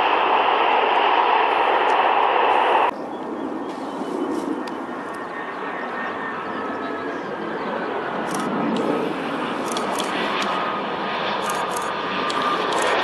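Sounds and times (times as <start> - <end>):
jet engine rumble with whine: 0.0 - 13.0
jet engines roaring on landing: 0.0 - 13.0.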